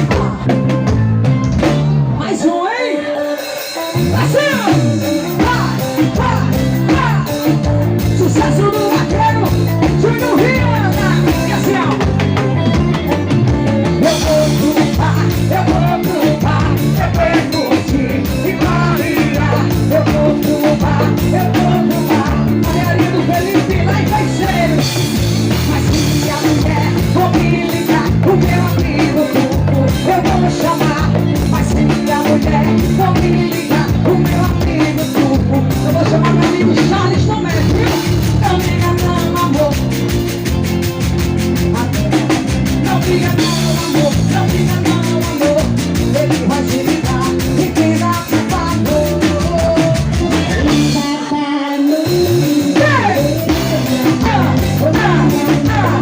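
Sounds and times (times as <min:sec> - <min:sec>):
person singing: 0:00.0 - 0:00.8, 0:02.1 - 0:40.3, 0:41.6 - 0:56.0
bass: 0:00.0 - 0:56.0
drum kit: 0:00.0 - 0:56.0
live band playing: 0:00.0 - 0:56.0.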